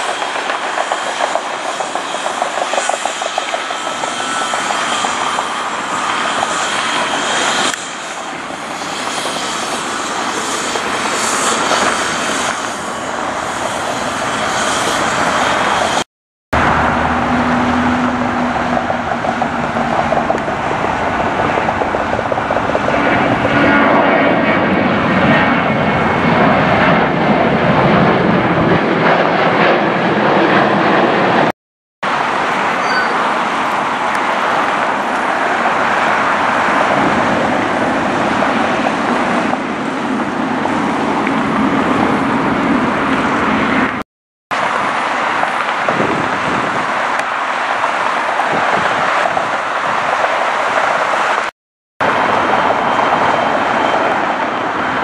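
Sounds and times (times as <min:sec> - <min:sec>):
airliner engine rushing: 0:00.0 - 0:55.0.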